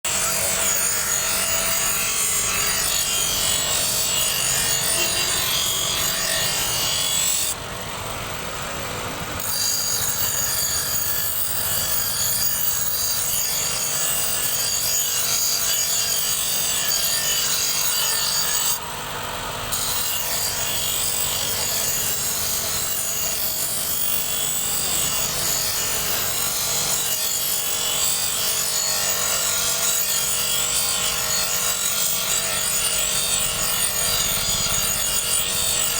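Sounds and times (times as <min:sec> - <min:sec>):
knife grinding on sharpening wheel: 0:00.1 - 0:07.6, 0:09.4 - 0:18.9, 0:19.7 - 0:35.9.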